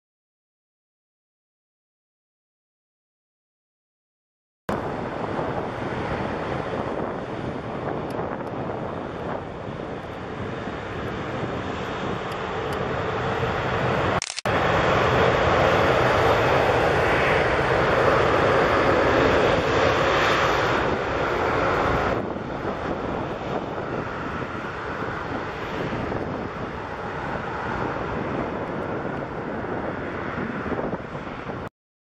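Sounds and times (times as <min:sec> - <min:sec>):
jet engine rumble: 0:04.7 - 0:31.7.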